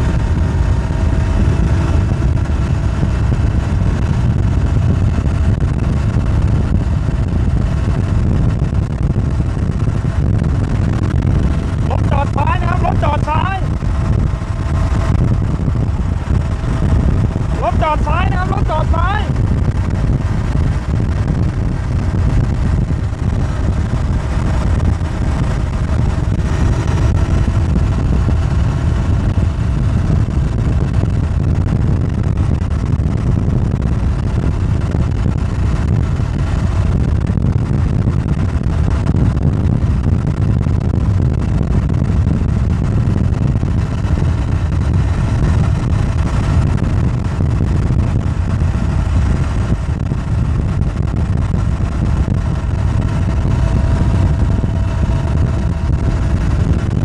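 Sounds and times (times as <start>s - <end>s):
bicycle road noise: 0.0s - 57.0s
wind buffeting microphone: 0.0s - 57.0s.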